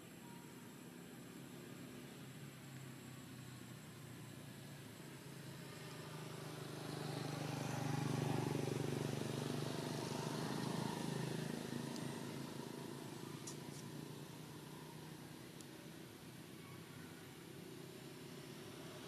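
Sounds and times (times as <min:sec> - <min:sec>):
vehicle passing by: 0:01.5 - 0:19.0.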